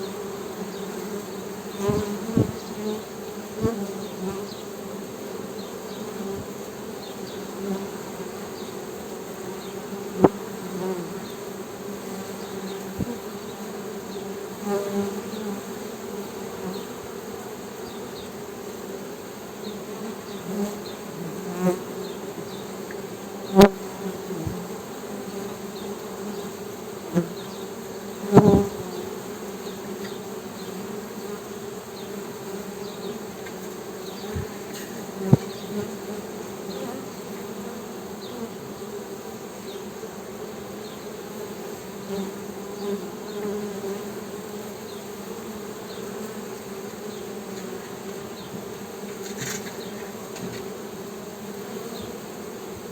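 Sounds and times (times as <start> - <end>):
honey bees humming: 0.0 - 52.9.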